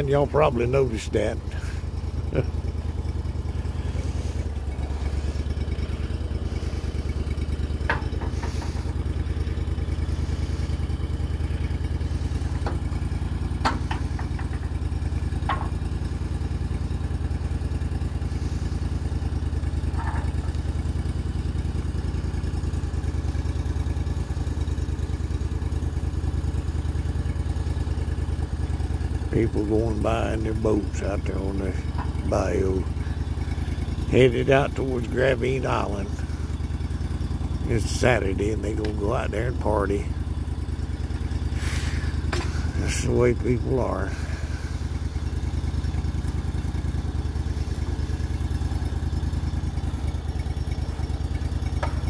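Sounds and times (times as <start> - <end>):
sawmill engine running: 0.0 - 52.0.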